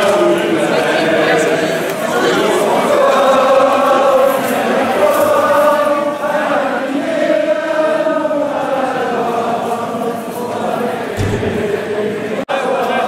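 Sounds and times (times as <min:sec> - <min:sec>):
crowd singing in unison: 0:00.0 - 0:13.0.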